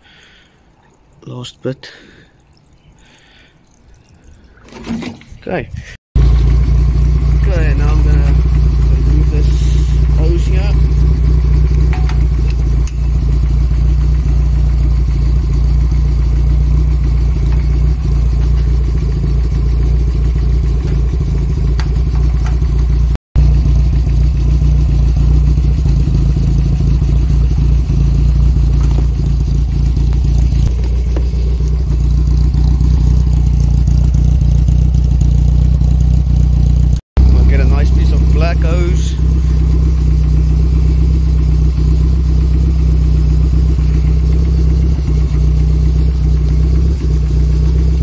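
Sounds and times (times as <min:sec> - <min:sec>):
car engine idling: 0:06.2 - 0:48.0.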